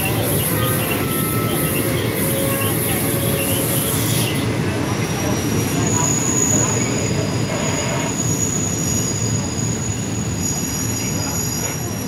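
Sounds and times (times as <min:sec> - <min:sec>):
high-pitched wheel squeal: 0:00.0 - 0:12.0
train rumbling on rails: 0:00.0 - 0:12.0.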